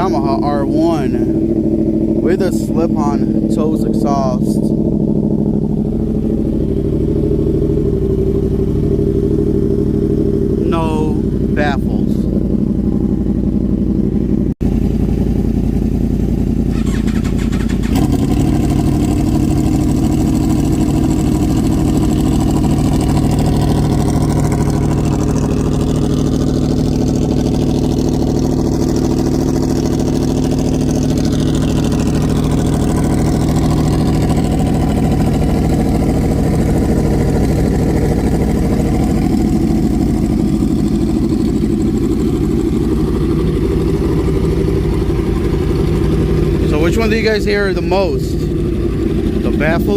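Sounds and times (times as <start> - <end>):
motorcycle engines idling: 0.0 - 49.9.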